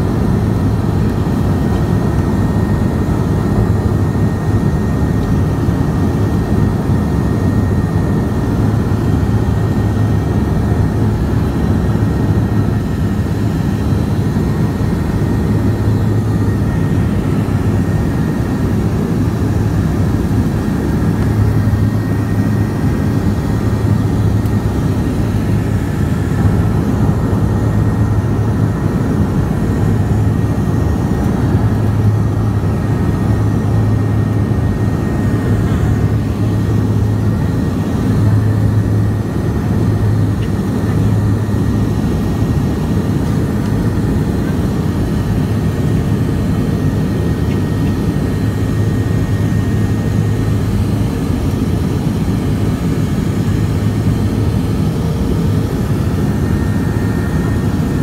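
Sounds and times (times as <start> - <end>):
aircraft cabin engine hum: 0.0 - 58.0.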